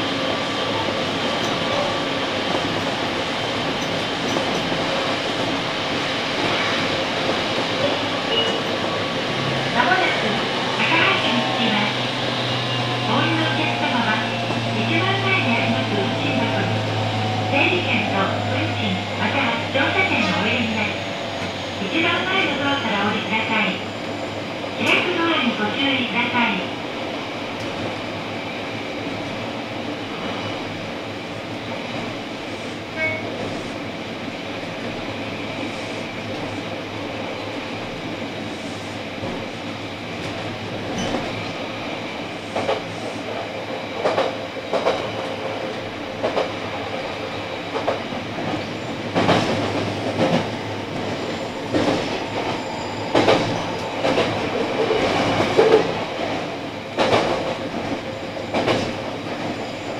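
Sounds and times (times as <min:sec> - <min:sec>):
train rolling noise: 0:00.0 - 0:59.9.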